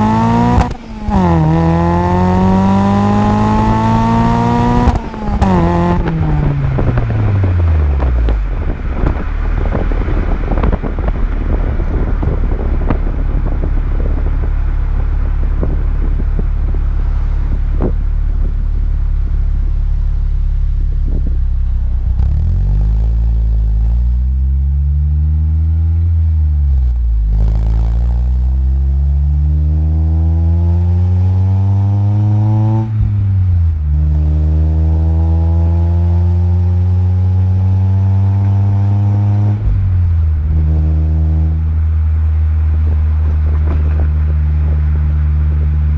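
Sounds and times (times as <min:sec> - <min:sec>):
car exhaust rumbling and revving: 0:00.0 - 0:45.9.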